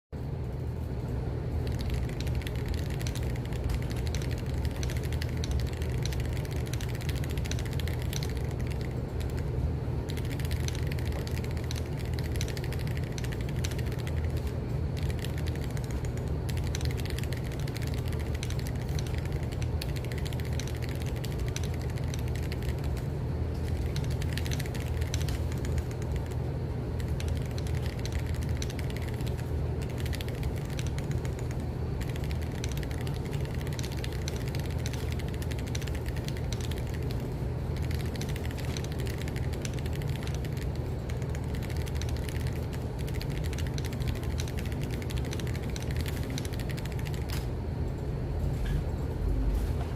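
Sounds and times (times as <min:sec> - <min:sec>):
mechanical keyboard typing: 0:01.5 - 0:47.5.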